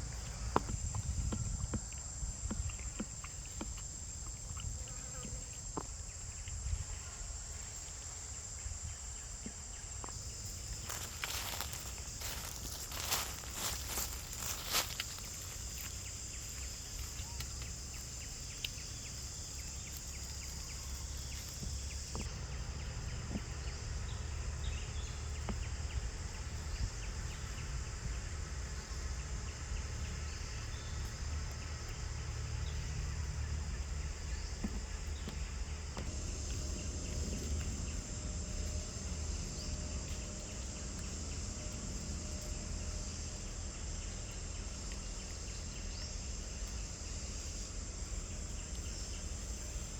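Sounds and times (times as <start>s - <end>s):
insects chirping: 0.0s - 49.9s.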